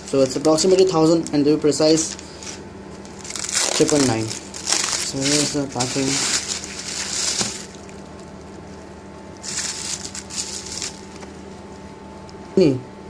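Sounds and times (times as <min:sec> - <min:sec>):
bubble wrap crinkling: 0:00.0 - 0:11.4.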